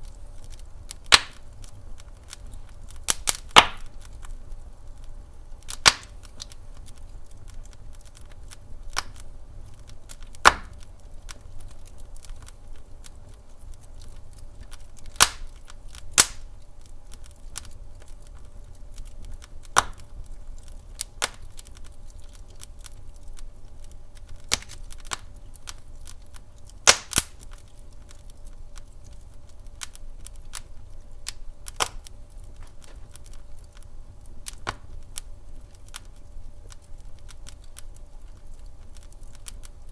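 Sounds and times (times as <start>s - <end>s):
low fire rumble: 0.0s - 39.9s
sharp fire pops: 0.0s - 39.9s
wood fire crackling: 0.0s - 39.9s.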